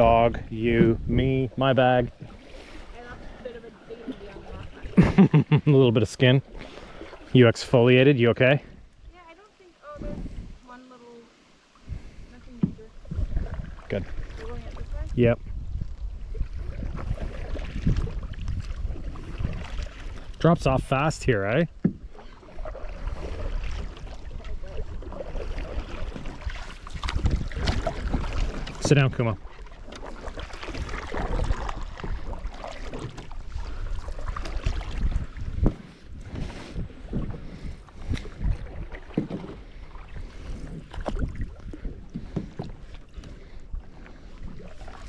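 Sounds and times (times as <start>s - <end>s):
wind on microphone: 0.0s - 3.4s, 9.9s - 10.8s, 11.8s - 21.4s, 22.0s - 45.0s
paddle splashing water: 0.0s - 45.0s.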